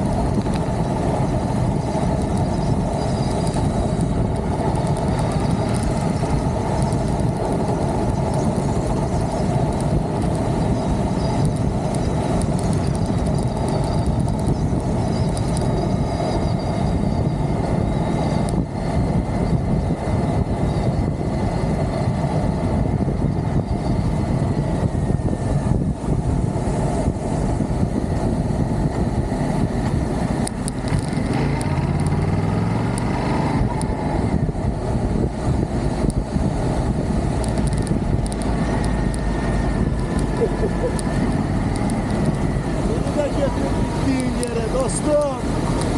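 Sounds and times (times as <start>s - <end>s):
motorcycle engine: 0.0s - 45.9s
wind and road noise: 0.0s - 45.9s.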